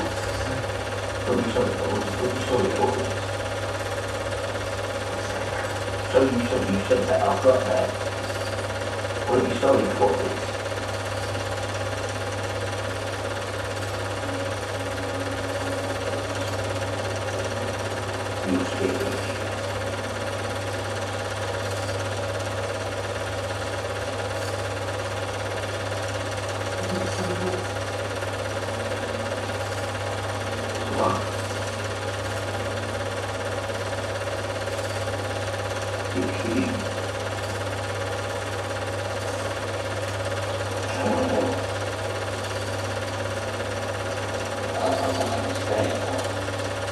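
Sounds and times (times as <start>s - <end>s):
constant hum: 0.0s - 46.9s
film projector whirring and clattering: 0.0s - 46.9s.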